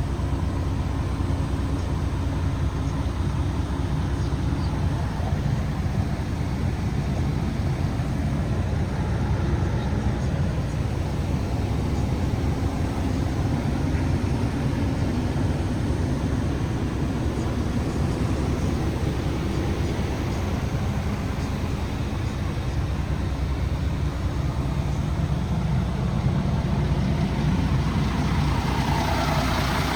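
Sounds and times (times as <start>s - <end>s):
diesel truck engine idling: 0.0s - 29.9s.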